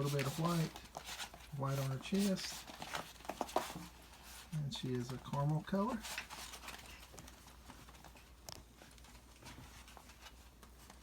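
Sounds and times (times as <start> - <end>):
faint clicks and rustles: 0.0 - 11.0.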